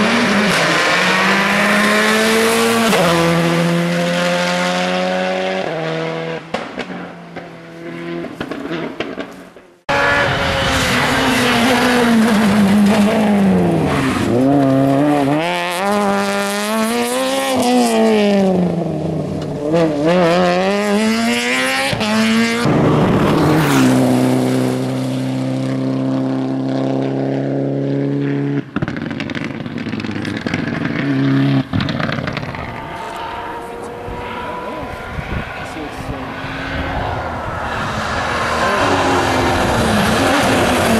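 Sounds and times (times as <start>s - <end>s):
rally car engines at full throttle: 0.0s - 40.9s.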